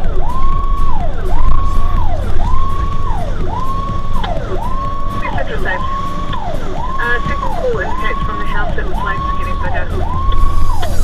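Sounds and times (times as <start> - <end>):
fire engine siren wailing: 0.0 - 11.0
truck engine and road rumble: 0.0 - 11.0.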